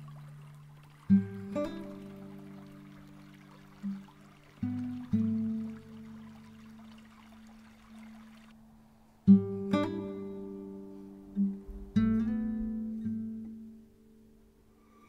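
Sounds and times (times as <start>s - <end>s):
acoustic guitar music: 0.0s - 6.7s, 9.2s - 15.0s.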